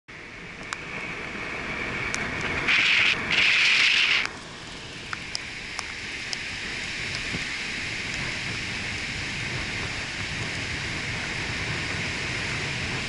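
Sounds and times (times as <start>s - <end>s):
wind: 0.1s - 13.0s
wave surges hissing: 0.4s - 13.0s
surf hissing: 0.9s - 13.0s.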